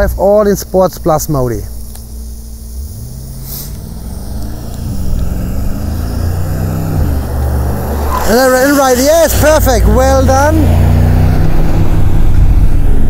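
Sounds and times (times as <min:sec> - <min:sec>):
car engine accelerating: 0:02.0 - 0:13.0.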